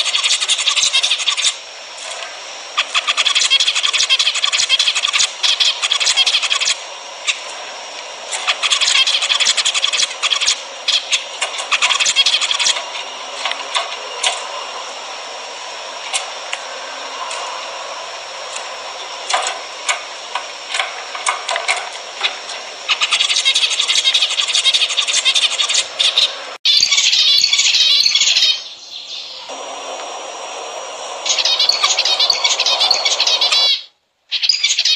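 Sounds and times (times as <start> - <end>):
finches chattering: 0.0 - 34.9.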